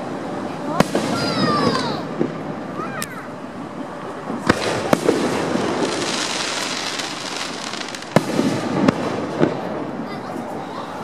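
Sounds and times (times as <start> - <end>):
steady wash of noise: 0.0 - 11.0
fireworks bangs: 0.6 - 11.0.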